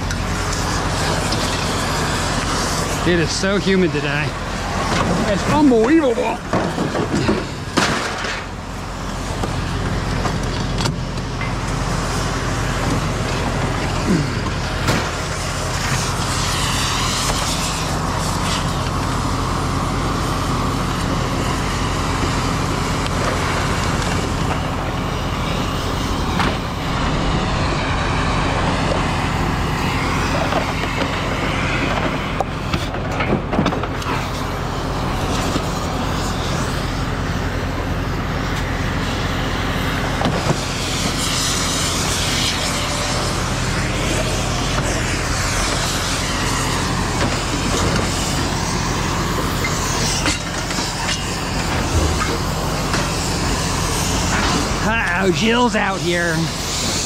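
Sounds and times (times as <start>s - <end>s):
road and traffic noise: 0.0s - 57.0s
vehicle engine drone: 0.0s - 57.0s.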